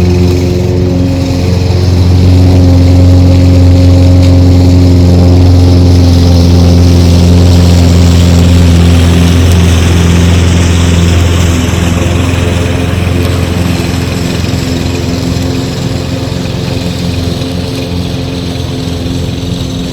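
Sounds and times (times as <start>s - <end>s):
lawnmower engine running: 0.0s - 19.9s.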